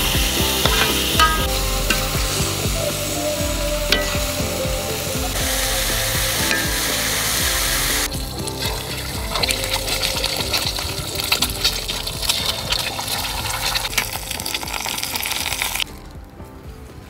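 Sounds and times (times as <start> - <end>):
eggs sizzling in frying pan: 0.0 - 15.9.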